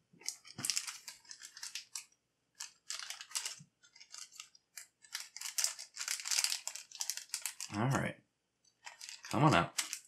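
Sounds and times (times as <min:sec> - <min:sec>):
plastic bag crinkling: 0:00.2 - 0:02.0, 0:02.6 - 0:07.7, 0:08.8 - 0:10.0.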